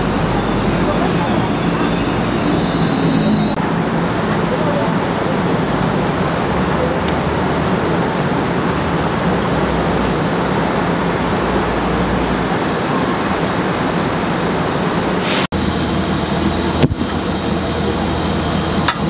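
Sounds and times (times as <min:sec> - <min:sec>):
city street noise: 0:00.0 - 0:19.0.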